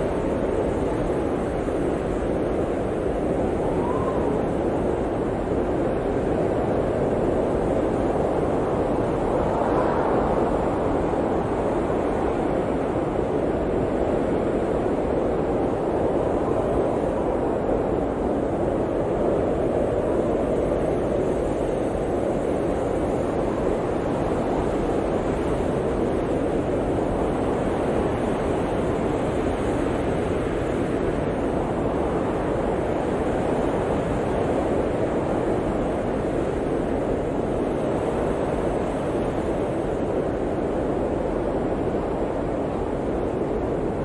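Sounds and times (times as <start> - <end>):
blizzard wind blowing: 0.0 - 44.0.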